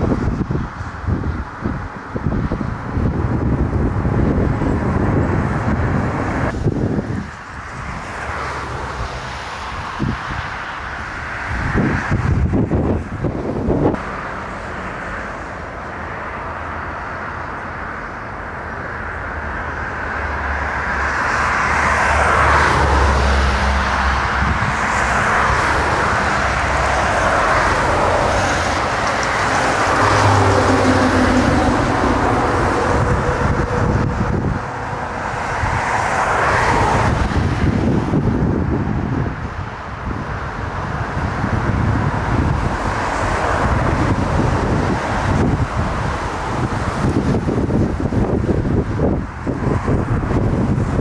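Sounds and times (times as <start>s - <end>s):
jet airliner roar: 0.0s - 51.0s.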